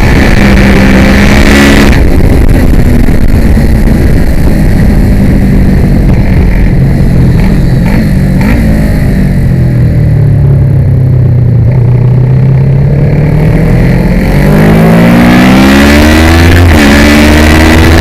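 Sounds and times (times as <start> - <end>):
wind noise: 0.0 - 10.9, 12.5 - 18.0
motorcycle engine at racing speed: 0.0 - 18.0.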